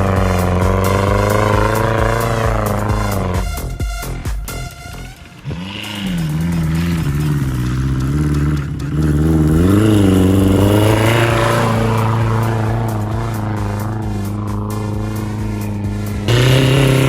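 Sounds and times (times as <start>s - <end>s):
sand buggy engine revving: 0.0s - 17.0s.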